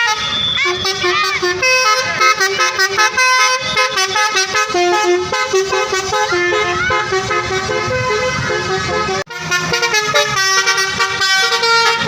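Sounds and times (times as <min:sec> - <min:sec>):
multi-tone bus horn playing a tune: 0:00.0 - 0:12.0.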